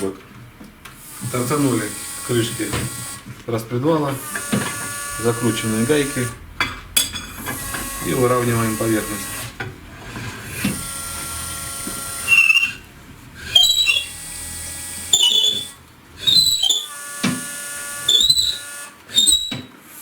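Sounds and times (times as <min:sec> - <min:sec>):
reamer squealing in metal: 0:01.0 - 0:19.8.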